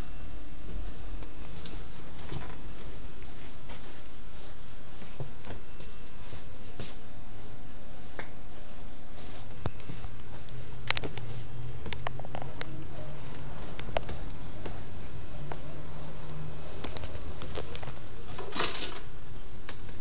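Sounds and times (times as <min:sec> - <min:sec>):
room noise: 0:00.0 - 0:20.0.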